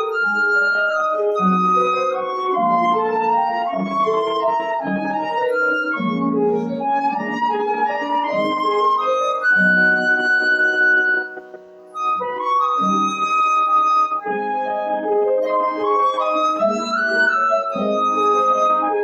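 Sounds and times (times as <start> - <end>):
piano accompaniment: 0.0 - 19.0
woodwind melody: 0.0 - 19.0.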